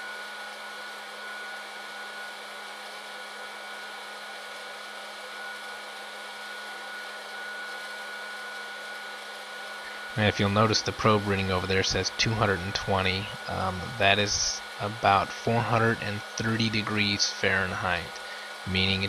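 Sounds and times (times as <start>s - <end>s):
popcorn popper blower running: 0.0s - 19.0s.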